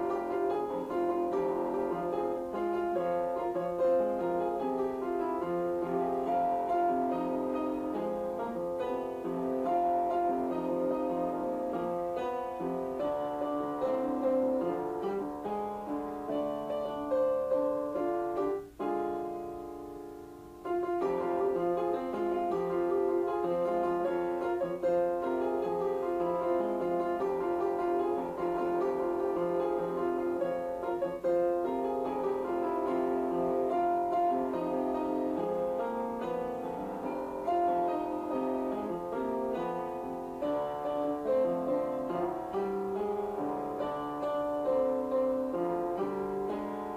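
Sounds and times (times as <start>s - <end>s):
background piano music: 0.0s - 46.9s.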